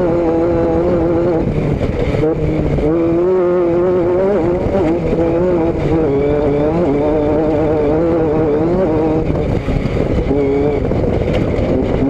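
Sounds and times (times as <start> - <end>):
steady rushing noise: 0.0 - 12.0
vehicle engine running: 0.0 - 12.0.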